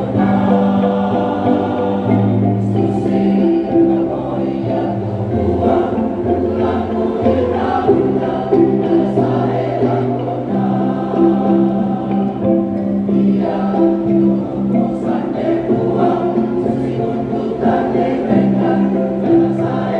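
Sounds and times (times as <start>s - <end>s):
choir singing sustained chords: 0.0s - 19.9s
wooden xylophones playing: 0.0s - 19.9s.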